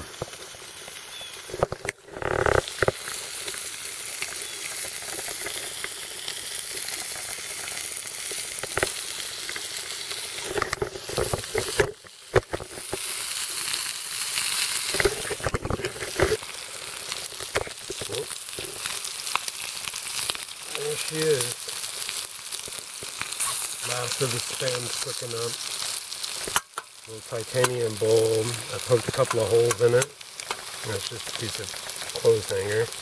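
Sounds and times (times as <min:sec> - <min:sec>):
meat sizzling in a bowl: 0:00.0 - 0:33.0.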